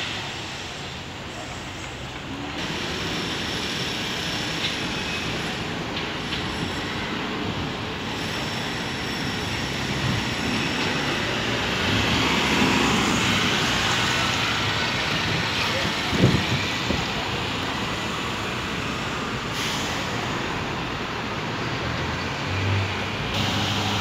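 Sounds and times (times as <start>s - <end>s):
cars driving on wet road: 0.0s - 24.0s.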